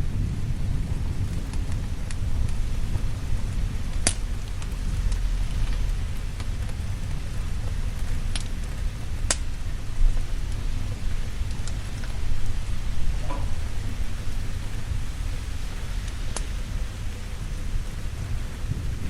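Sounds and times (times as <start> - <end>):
steady rain: 0.0 - 19.0
wood fire crackling pops: 0.1 - 19.0
low rumble: 2.2 - 18.6.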